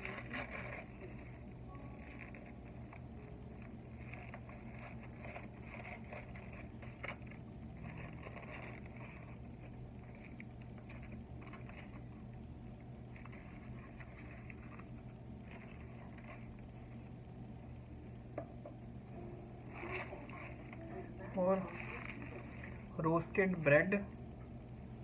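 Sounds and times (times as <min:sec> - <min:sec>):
foil crinkling: 0:00.0 - 0:17.2, 0:19.7 - 0:23.9
steady low hum: 0:00.0 - 0:25.0.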